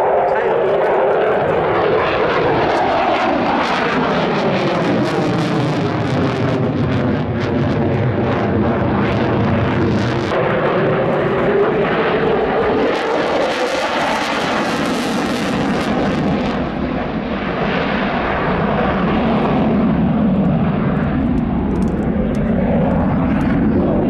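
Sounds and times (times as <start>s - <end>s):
fighter jet engine roaring: 0.0s - 24.0s.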